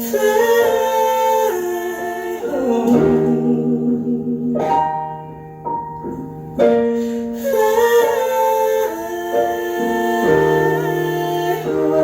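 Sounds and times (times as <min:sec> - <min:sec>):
woman singing with harmony: 0:00.0 - 0:05.3, 0:07.2 - 0:12.0.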